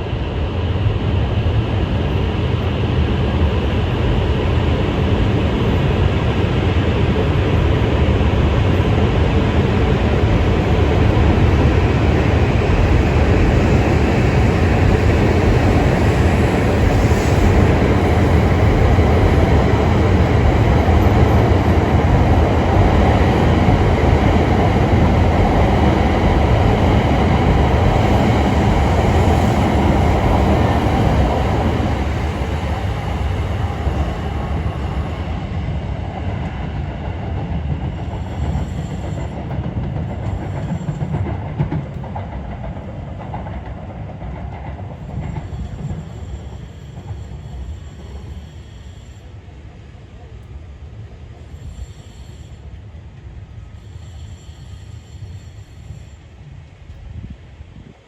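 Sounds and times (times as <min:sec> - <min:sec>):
train rushing past: 0:00.0 - 0:58.0.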